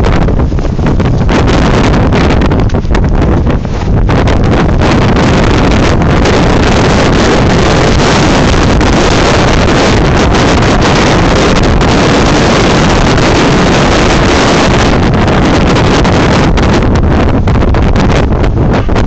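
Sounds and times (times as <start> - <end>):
strong wind on microphone: 0.0 - 19.0.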